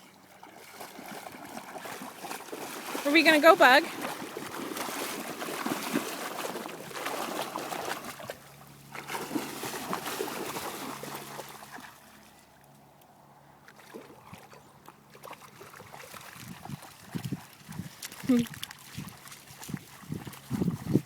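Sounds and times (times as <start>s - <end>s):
low motor hum: 0.0s - 21.0s
water splashing as dogs swim: 0.0s - 21.0s.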